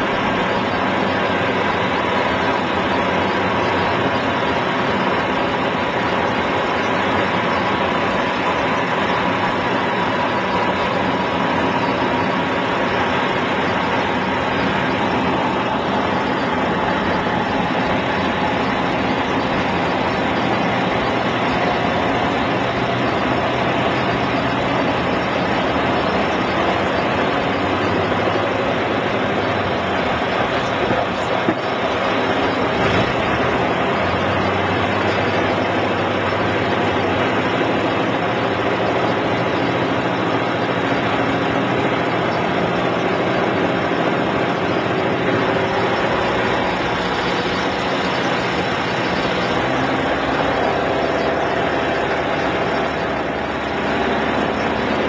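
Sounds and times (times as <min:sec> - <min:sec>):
propeller plane engine drone: 0:00.0 - 0:55.0.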